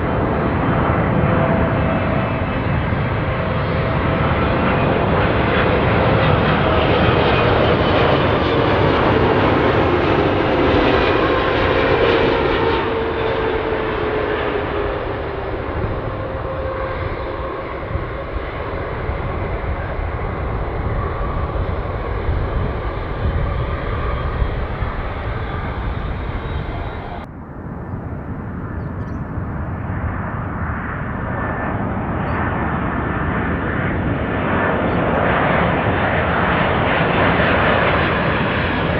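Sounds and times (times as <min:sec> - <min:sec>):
four jet engines roaring: 0:00.0 - 0:38.9
jet engines on landing approach: 0:00.0 - 0:38.9.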